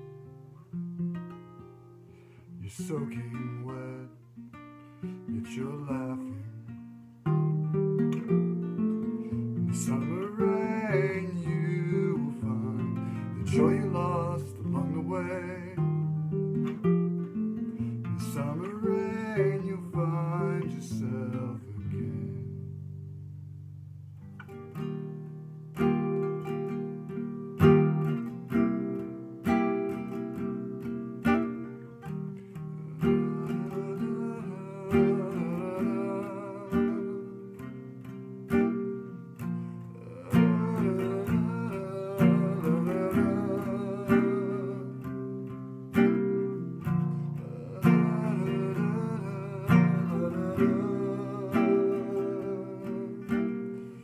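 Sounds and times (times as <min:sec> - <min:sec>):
fingerpicked classical guitar: 0:00.0 - 0:54.0.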